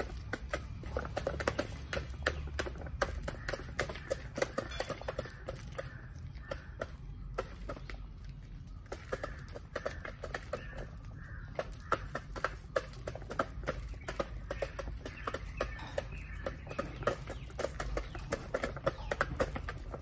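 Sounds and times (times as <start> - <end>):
beaks tapping on ground: 0.0 - 20.0
chickens clucking: 0.0 - 20.0.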